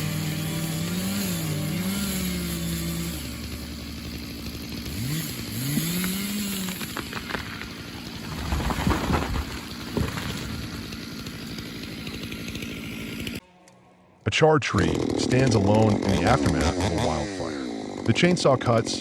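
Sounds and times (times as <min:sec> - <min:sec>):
engine revving: 0:00.0 - 0:13.4, 0:14.8 - 0:19.0.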